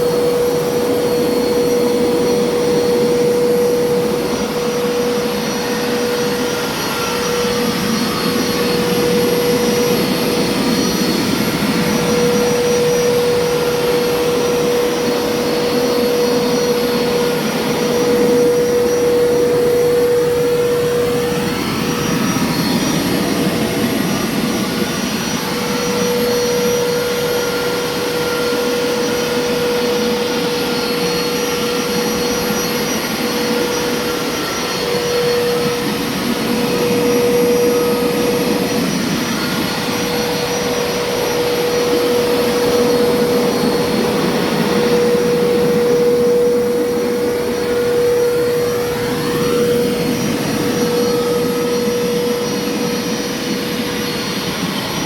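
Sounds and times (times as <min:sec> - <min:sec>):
carpet cleaner running: 0:00.0 - 0:55.0.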